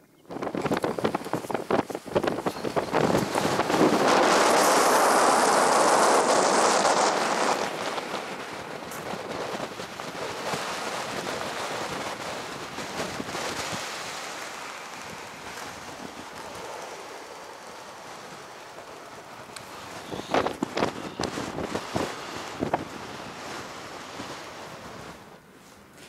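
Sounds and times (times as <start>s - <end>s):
wind buffeting microphone: 0.1s - 25.4s.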